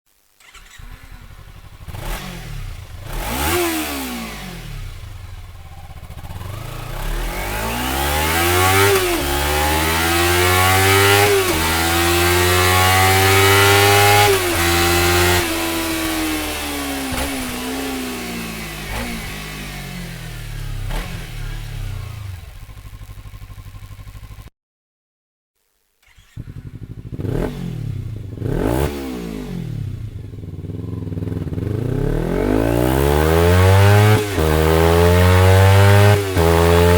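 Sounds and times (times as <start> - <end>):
motorcycle accelerating through gears: 0.4 - 24.5, 26.0 - 36.9
motorcycle engine revving: 0.4 - 24.5, 26.0 - 36.9.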